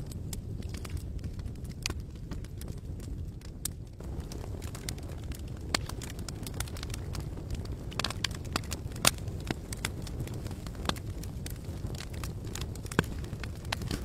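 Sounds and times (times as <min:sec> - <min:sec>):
campfire crackling and popping: 0:00.0 - 0:14.0
low rumble of burning: 0:00.0 - 0:14.0.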